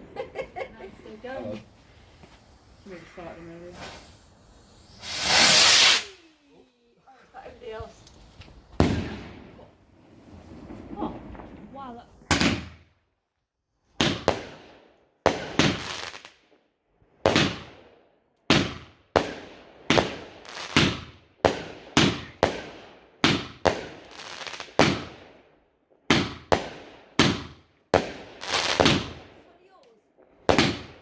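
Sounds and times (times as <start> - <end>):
fireworks banging: 0.0 - 6.5, 7.3 - 12.9, 14.0 - 14.6, 15.3 - 16.3, 17.3 - 17.8, 18.5 - 25.2, 26.1 - 31.0.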